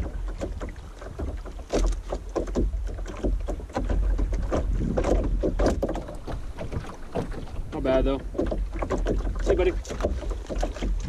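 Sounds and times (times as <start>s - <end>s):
knocks: 0.0s - 7.5s, 8.1s - 11.0s
water splashing around canoe: 0.0s - 11.0s
wind rumble on microphone: 0.0s - 11.0s.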